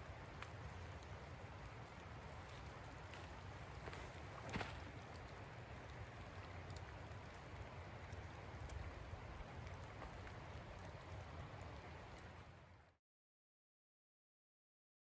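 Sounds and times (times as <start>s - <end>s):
raindrops ticking: 0.0s - 12.9s
light rain patter: 0.0s - 13.0s.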